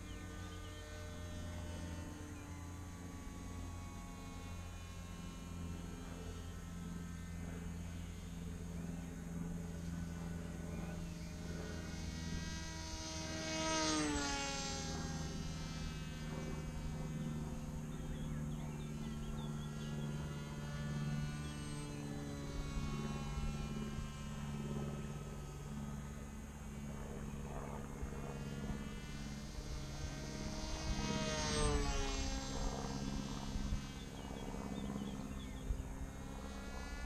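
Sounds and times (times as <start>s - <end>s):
model airplane motor whine: 0.0s - 37.0s
steady low hum: 0.0s - 37.0s.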